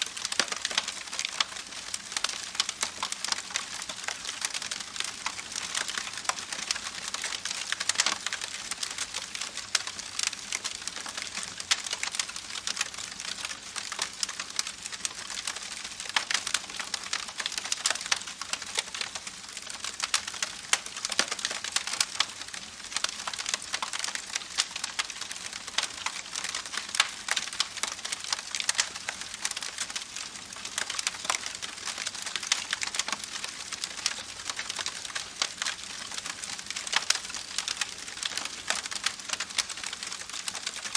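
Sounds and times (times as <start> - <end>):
campfire crackling: 0.1 - 40.9.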